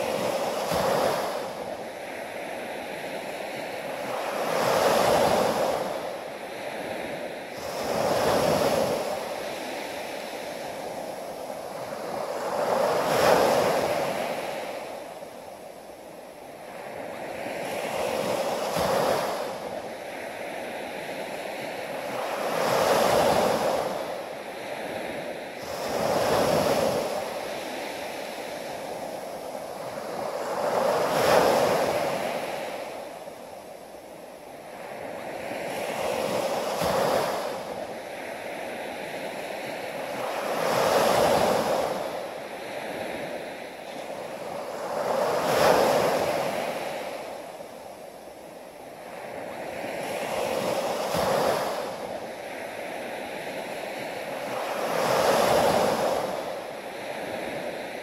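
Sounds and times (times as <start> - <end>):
small waves breaking on sand: 0.0 - 58.0.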